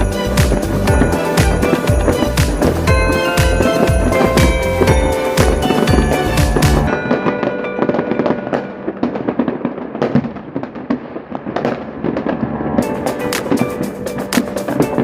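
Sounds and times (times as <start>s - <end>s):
music playing: 0.0s - 9.4s, 11.8s - 15.0s
fireworks bangs and crackles: 0.0s - 15.0s.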